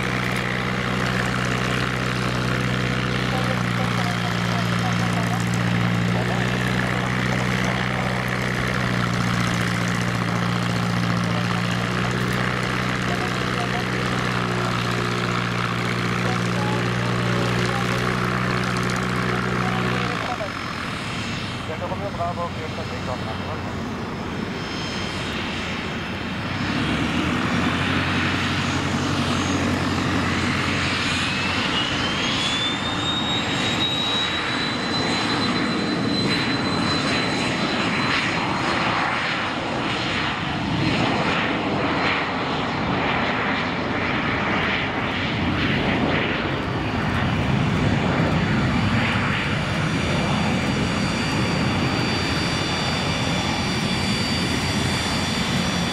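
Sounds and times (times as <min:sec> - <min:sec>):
jet engine roar: 0:00.0 - 0:55.9
jet engine whine rising: 0:00.0 - 0:55.9.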